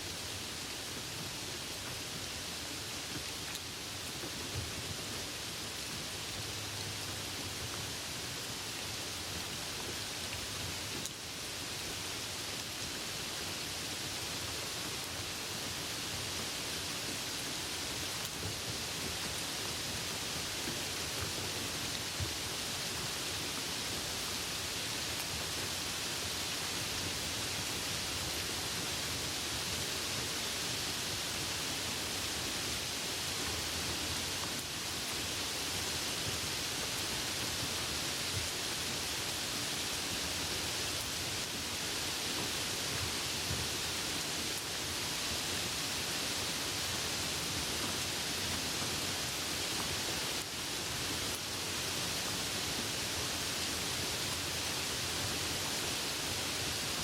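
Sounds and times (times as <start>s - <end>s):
steady soft rain: 0.0s - 57.0s.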